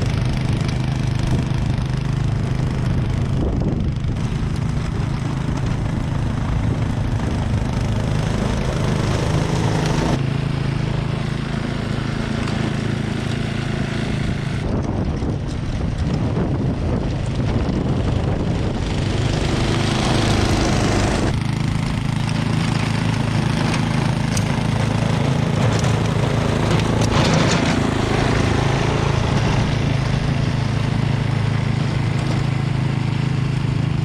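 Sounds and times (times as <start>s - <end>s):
snowblower engine running: 0.0s - 34.0s.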